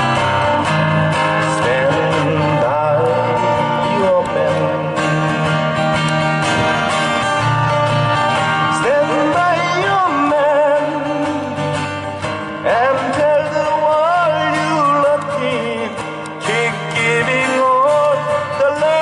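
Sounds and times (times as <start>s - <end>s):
person singing with vibrato: 0.0s - 7.6s, 8.4s - 19.0s
acoustic guitars strumming: 0.0s - 19.0s.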